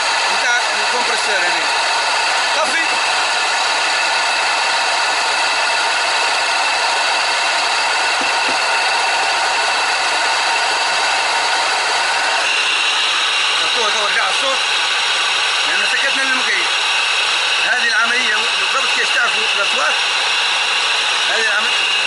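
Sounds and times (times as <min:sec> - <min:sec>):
diesel engine idling: 0:00.0 - 0:19.2.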